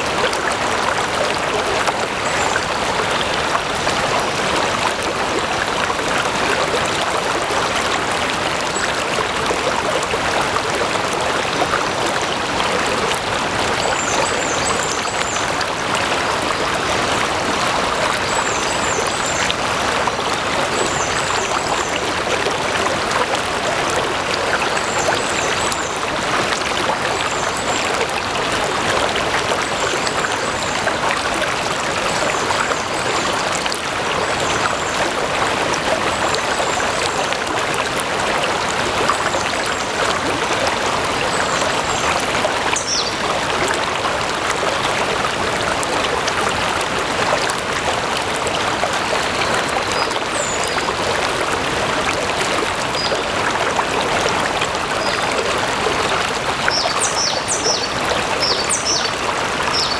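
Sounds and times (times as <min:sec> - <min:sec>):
stream of water trickling: 0:00.0 - 0:59.9.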